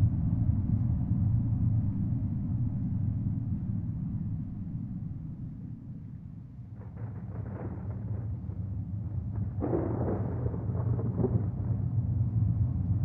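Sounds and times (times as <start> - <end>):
distant highway traffic rumble: 0.0 - 13.0.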